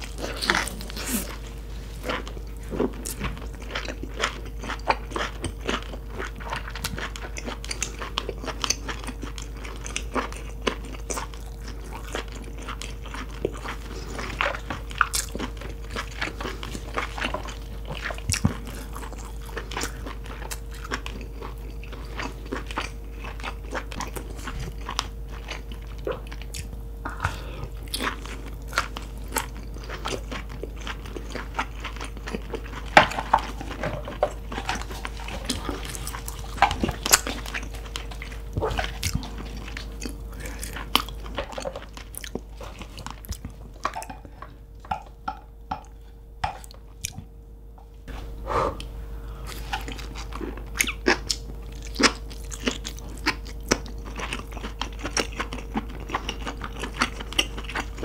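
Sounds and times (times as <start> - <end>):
close chewing and biting: 0.0 - 47.2, 48.8 - 58.0
faint steady hum: 0.0 - 58.0.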